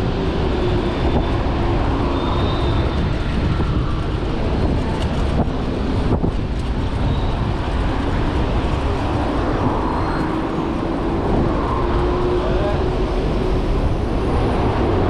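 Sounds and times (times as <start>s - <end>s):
city traffic noise: 0.0s - 15.0s
vehicle hum: 0.0s - 15.0s
wind rushing over microphone: 0.0s - 15.0s.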